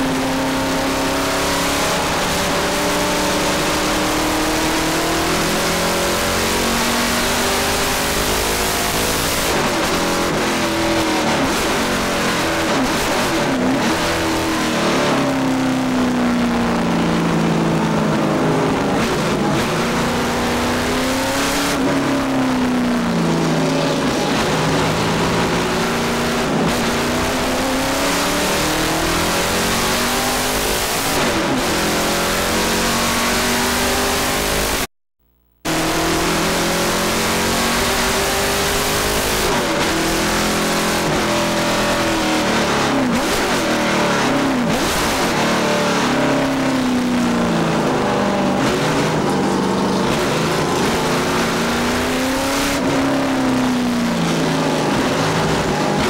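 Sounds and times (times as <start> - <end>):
racing car engine revving: 0.0 - 34.9, 35.5 - 56.0
cabin and road rush: 0.0 - 56.0.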